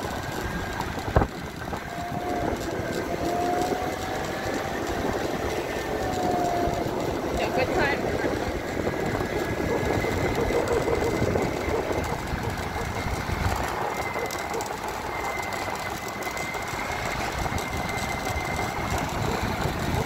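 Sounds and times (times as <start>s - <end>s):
motor scooter running: 0.0s - 20.0s
wind rushing over microphone: 0.0s - 20.0s.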